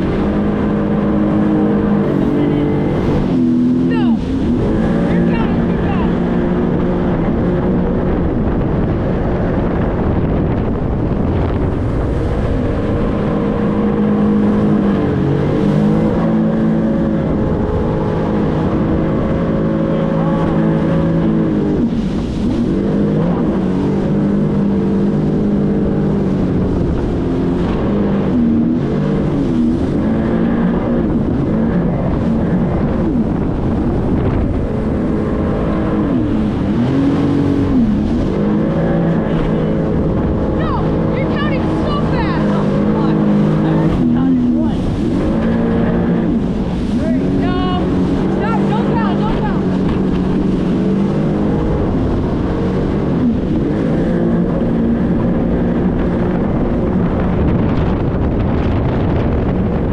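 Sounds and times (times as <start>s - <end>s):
jet ski engine: 0.0s - 59.9s
wind: 0.0s - 59.9s.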